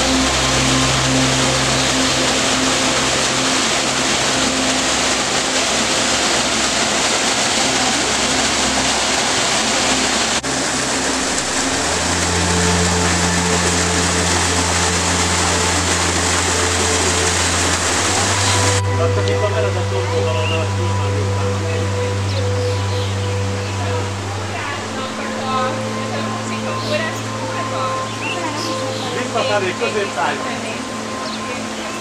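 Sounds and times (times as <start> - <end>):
waterfall pouring into pool: 0.0 - 26.2
low steady hum: 0.0 - 32.0.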